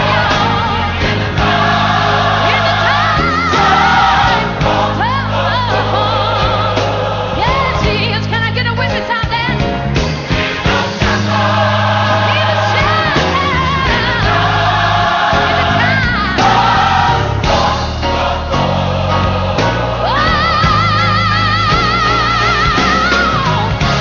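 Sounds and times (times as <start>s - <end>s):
choir singing gospel: 0.0s - 24.0s
steady bass accompaniment: 0.0s - 24.0s.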